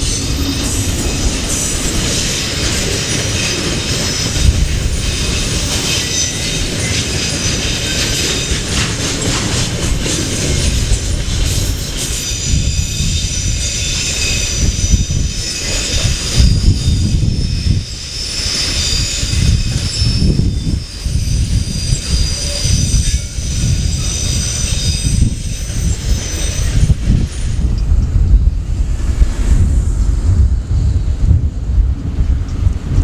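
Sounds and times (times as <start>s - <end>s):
train wheels squealing: 0.0s - 31.3s.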